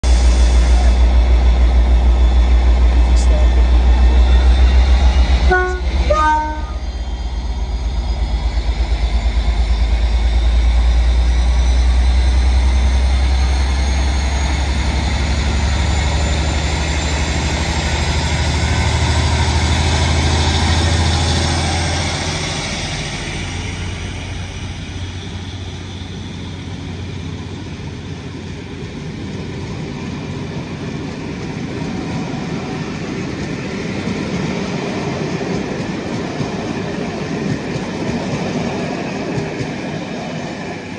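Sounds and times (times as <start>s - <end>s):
diesel locomotive engine rumble: 0.0s - 40.9s
coaches rolling on rails: 0.4s - 40.9s.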